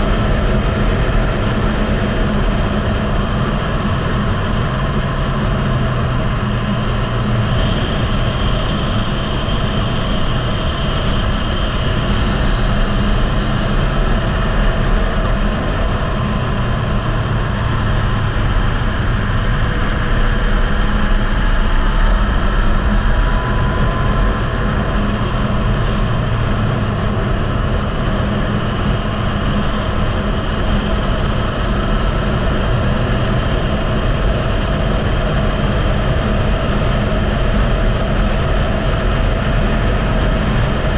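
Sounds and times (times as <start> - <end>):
motorcycle engine running: 0.0 - 38.8
heavy wind noise: 0.0 - 40.9.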